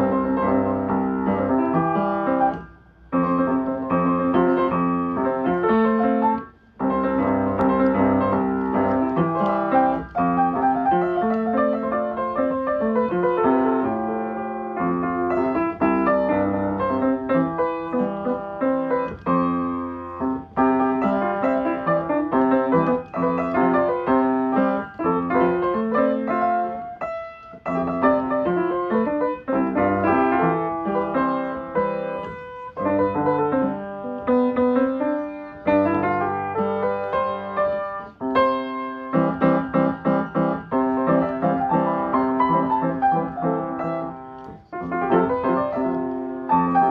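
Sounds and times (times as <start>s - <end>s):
solo piano playing: 0.0s - 46.9s.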